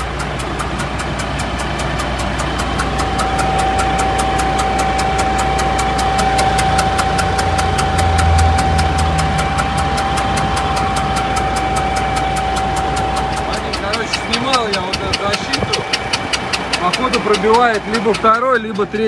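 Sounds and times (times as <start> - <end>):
diesel engine idling with ticking: 0.0 - 19.0
steady high whine: 0.0 - 19.0.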